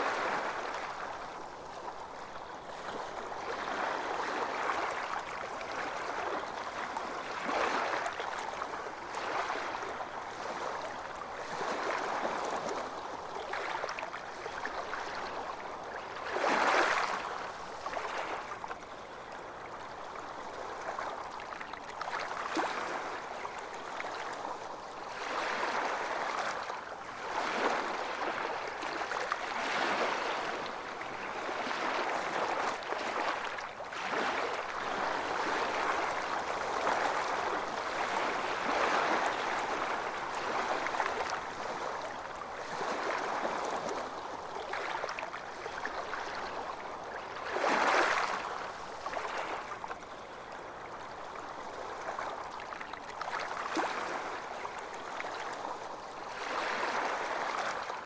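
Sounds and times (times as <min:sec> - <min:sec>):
ocean waves on beach: 0:00.0 - 0:14.0, 0:22.1 - 0:52.4, 0:53.2 - 0:58.0.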